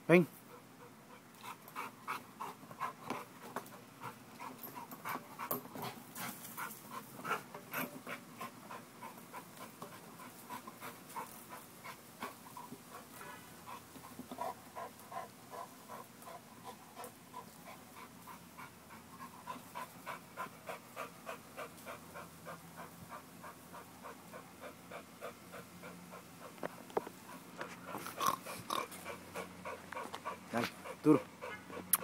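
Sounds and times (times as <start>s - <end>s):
dog panting quickly: 0.5s - 32.0s.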